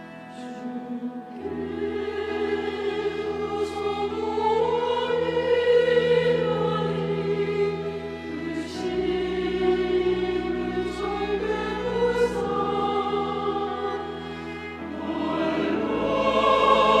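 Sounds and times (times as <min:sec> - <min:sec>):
choir singing: 0:00.0 - 0:17.0
instrumental accompaniment: 0:00.0 - 0:17.0.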